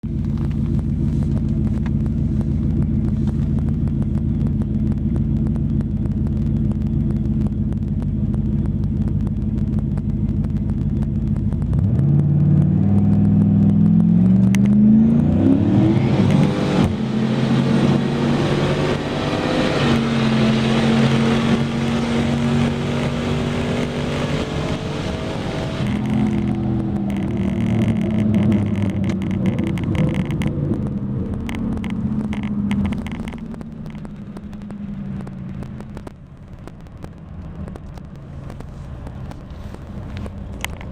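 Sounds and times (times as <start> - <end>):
car engine rumbling and revving: 0.0 - 40.9.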